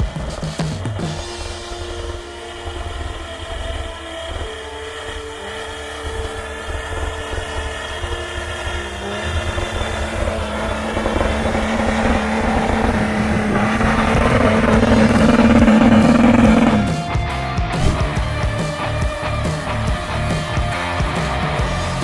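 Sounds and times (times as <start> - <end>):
suv engine pulling hard: 0.0 - 22.0.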